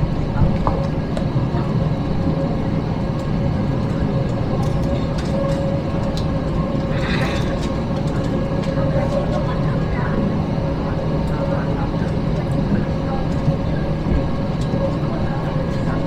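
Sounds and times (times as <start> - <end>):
airplane cabin rumble: 0.0 - 16.0
jet engines idling whine: 0.0 - 16.0.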